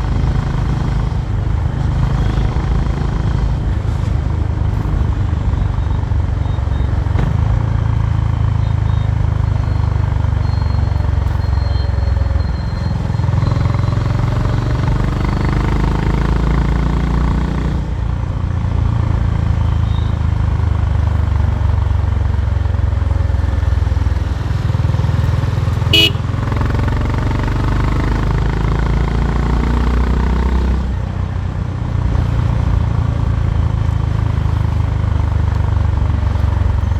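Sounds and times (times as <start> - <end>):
motorcycle engine and exhaust: 0.0 - 36.9.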